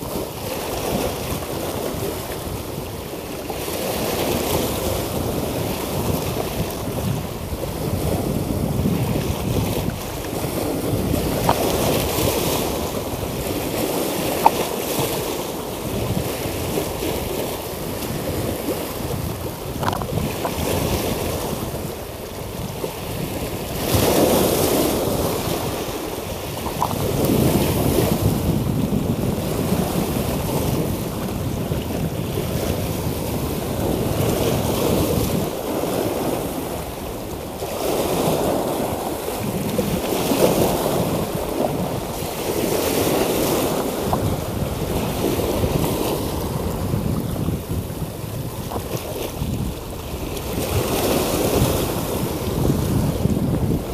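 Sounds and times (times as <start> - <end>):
waves splashing against rocks: 0.0 - 53.9
wind buffeting microphone: 0.0 - 53.9.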